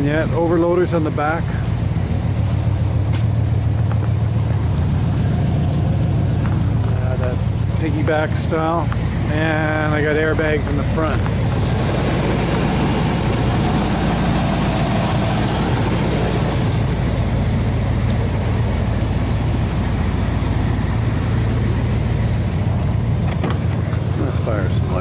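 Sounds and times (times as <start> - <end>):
pickup engine idling: 0.0 - 25.0.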